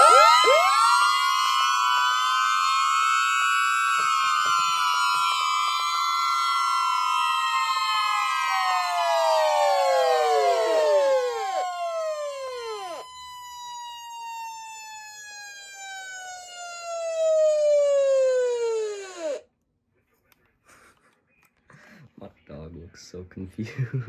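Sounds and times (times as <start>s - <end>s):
weather radio siren alerts: 0.0s - 19.4s.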